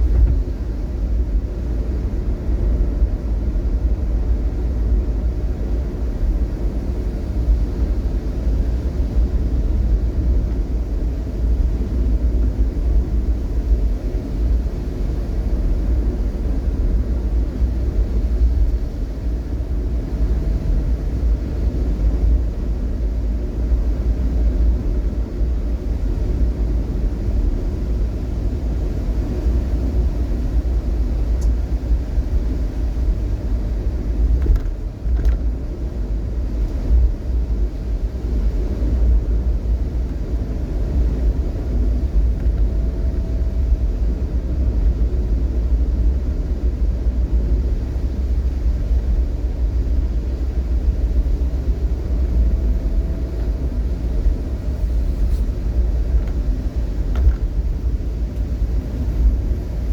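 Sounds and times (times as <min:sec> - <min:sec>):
vehicle road and engine rumble: 0:00.0 - 0:59.9.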